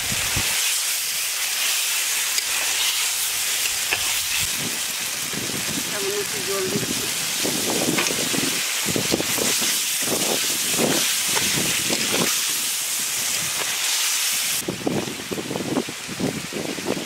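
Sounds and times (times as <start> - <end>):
steam hissing and sizzling: 0.0 - 17.0.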